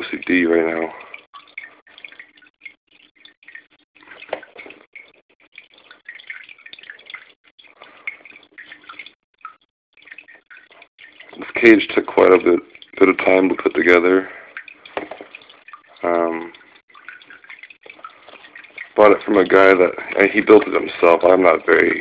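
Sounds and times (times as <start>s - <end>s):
small waterfall trickling and dripping: 0.0s - 22.0s.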